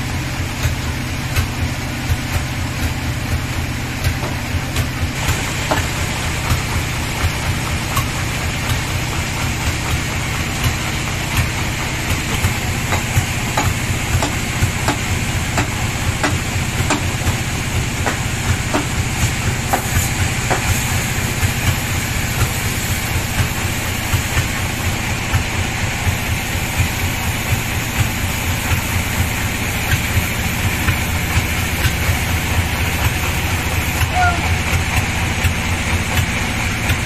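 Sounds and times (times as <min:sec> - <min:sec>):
band saw running: 0:02.9 - 0:37.0.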